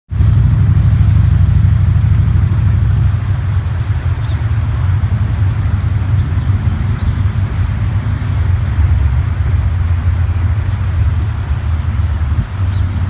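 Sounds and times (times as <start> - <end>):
river rushing: 0.1 - 13.0
wind buffeting microphone: 0.1 - 13.0.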